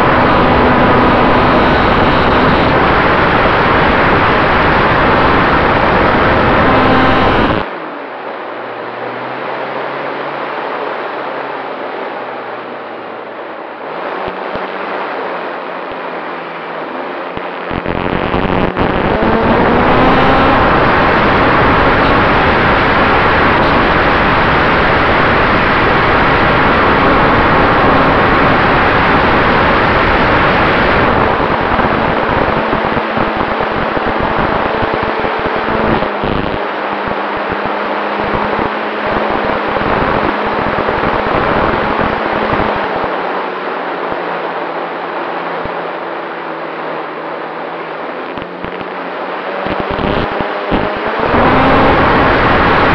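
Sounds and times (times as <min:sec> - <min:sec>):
wind rush on microphone: 0:00.0 - 0:07.7, 0:10.2 - 0:52.9.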